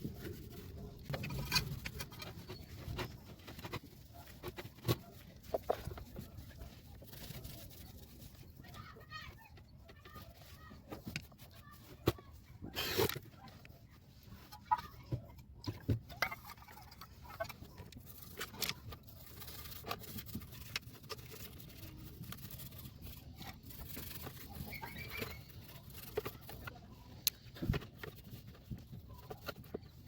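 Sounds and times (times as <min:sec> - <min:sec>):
faint rubbing: 0:00.0 - 0:30.0.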